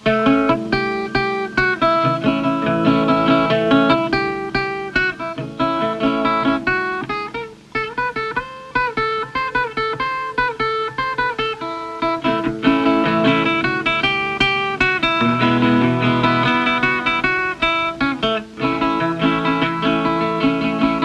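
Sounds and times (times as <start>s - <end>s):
solo guitar plucked notes: 0.0s - 21.0s.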